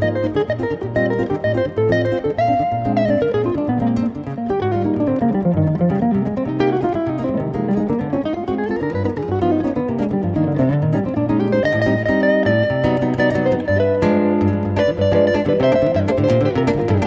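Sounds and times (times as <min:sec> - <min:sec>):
guitars playing fast instrumental: 0:00.0 - 0:17.0.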